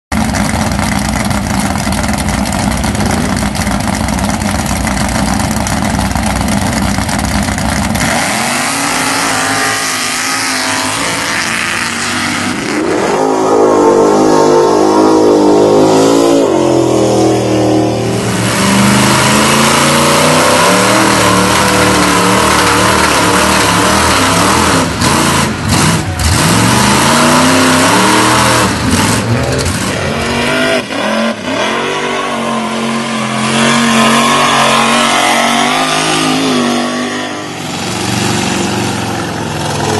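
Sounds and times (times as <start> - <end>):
truck engines revving: 0.1 - 39.9.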